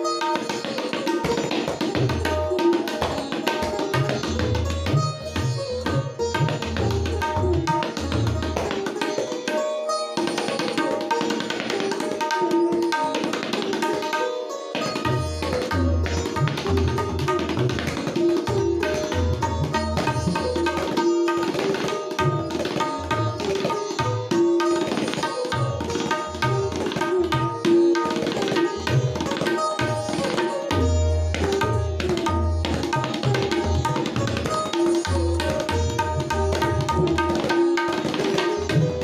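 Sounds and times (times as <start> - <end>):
tabla playing fast strokes: 0.0 - 39.0.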